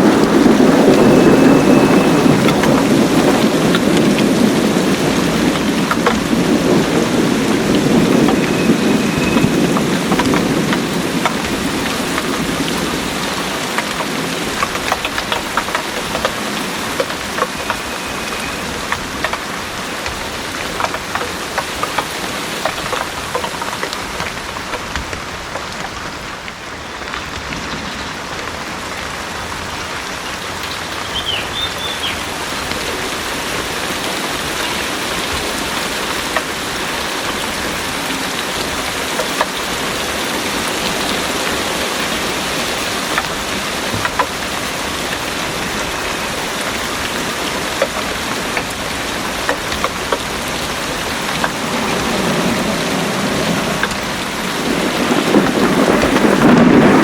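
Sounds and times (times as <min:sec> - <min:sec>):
heavy rain pouring: 0:00.0 - 0:57.0
raindrops ticking close by: 0:00.0 - 0:57.0.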